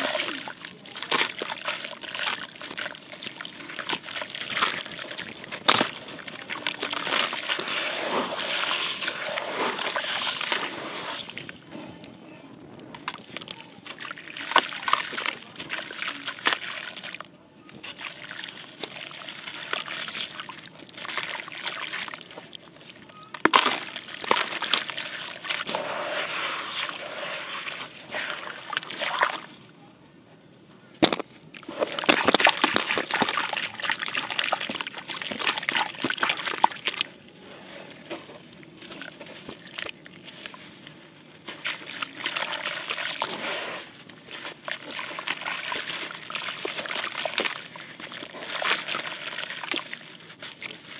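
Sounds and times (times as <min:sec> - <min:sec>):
water splashing and sloshing: 0:00.0 - 0:29.8, 0:31.0 - 0:50.9.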